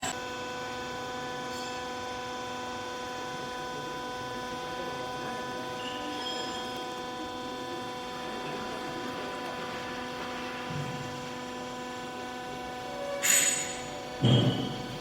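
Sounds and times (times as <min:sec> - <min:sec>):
baler machine humming: 0:00.0 - 0:15.0.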